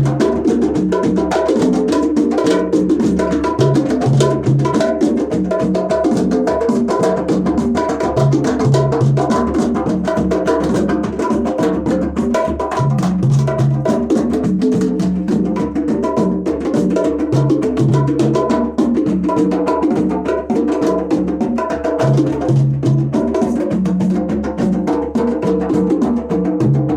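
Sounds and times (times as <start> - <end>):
drums and wood-block strikes: 0.0 - 26.9.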